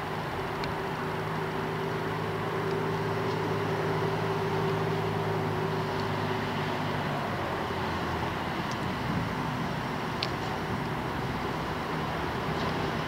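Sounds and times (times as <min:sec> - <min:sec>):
rail motor engine humming: 0:00.0 - 0:13.0.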